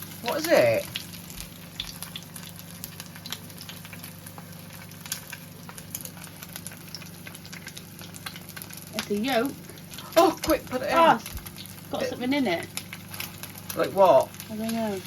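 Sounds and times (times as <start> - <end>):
egg sizzling in hot oil: 0.0 - 15.0
low steady hum: 0.0 - 15.0
oil popping and crackling: 0.0 - 15.0.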